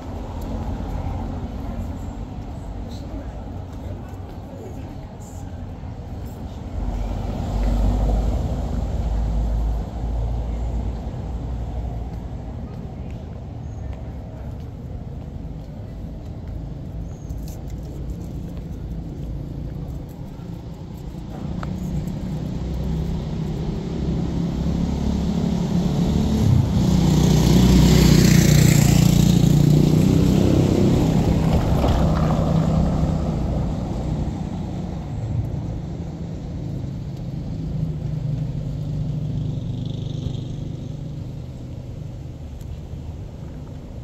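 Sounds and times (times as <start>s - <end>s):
vehicle passing on cobblestones: 0.0s - 44.0s.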